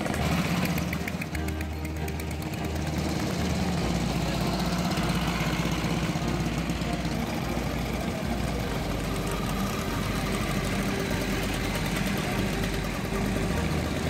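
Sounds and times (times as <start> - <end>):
old motorcycle engines running: 0.0 - 14.0.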